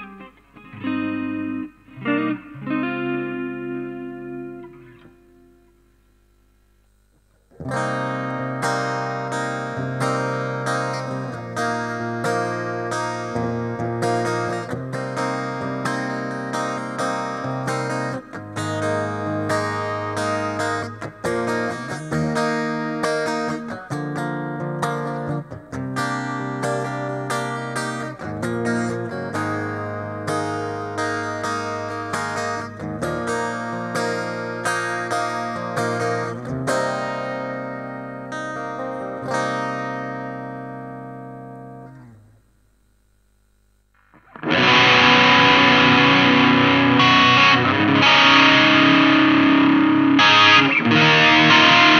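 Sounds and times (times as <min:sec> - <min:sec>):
loud distorted guitar: 0:00.0 - 0:05.6, 0:07.4 - 0:42.3, 0:44.0 - 0:51.9
ringing guitar chords: 0:00.0 - 0:06.0, 0:07.5 - 0:42.3, 0:44.1 - 0:51.9.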